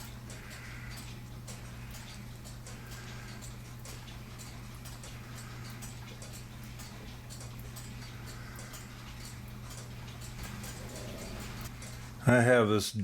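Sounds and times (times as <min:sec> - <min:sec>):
mechanical clocks ticking: 0:00.0 - 0:12.6
steady low hum: 0:00.0 - 0:12.8.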